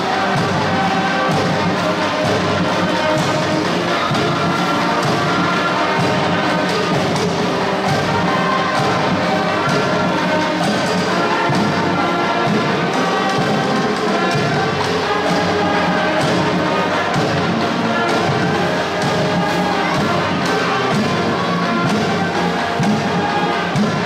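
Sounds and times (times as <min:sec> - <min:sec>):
pep band playing a tune: 0:00.0 - 0:24.0
snare and bass drums beat: 0:00.0 - 0:24.0.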